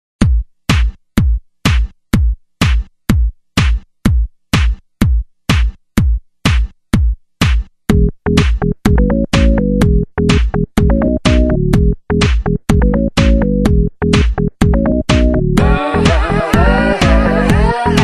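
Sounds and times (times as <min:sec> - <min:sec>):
drum machine beat: 0:00.2 - 0:18.0.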